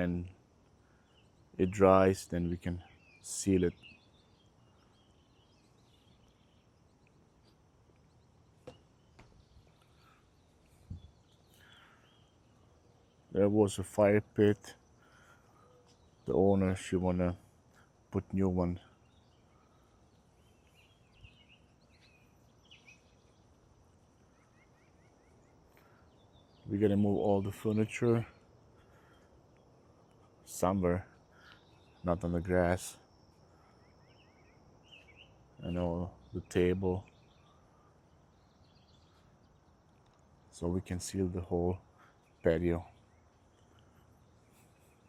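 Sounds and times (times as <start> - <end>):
faint high chirps: 0.0 - 45.0.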